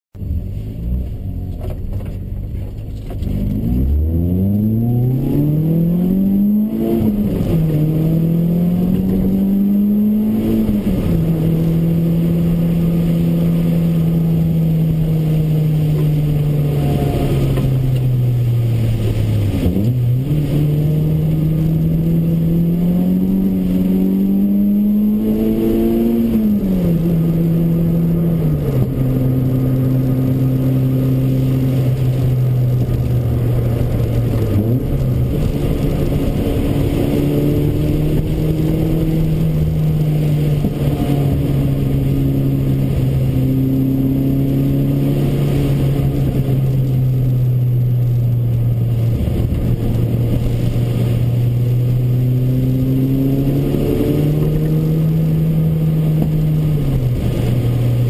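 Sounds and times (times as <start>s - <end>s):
car engine revving through gears: 0.2s - 58.0s.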